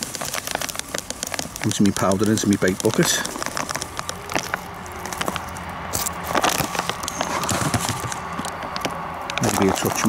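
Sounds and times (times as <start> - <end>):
foil bag crinkling: 0.0 - 10.0.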